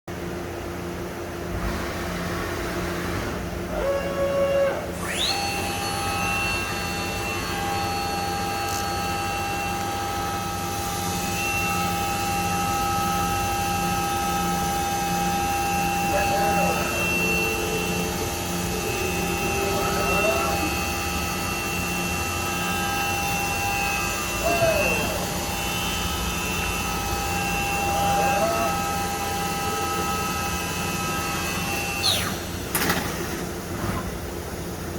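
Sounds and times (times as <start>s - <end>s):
machine constant hum: 0.1s - 34.9s
machine spindle whine: 0.7s - 34.9s.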